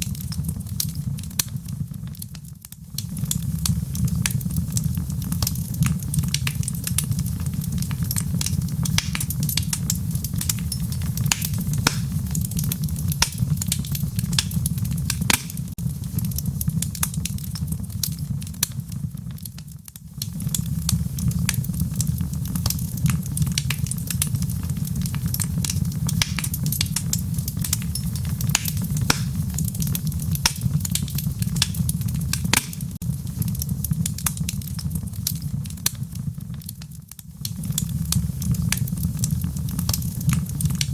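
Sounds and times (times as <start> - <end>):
fire crackles and pops: 0.0 - 40.9
fire flames rumbling: 0.0 - 40.9.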